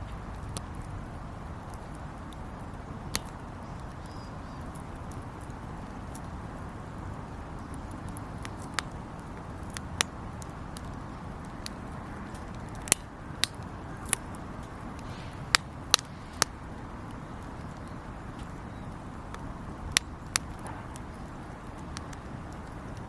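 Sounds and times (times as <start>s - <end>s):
campfire hissing: 0.0s - 23.0s
fire crackles and pops: 0.0s - 23.0s.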